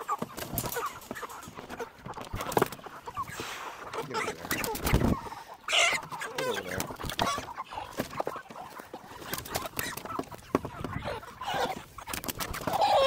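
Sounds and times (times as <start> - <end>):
chickens clucking and squawking: 0.0 - 13.0.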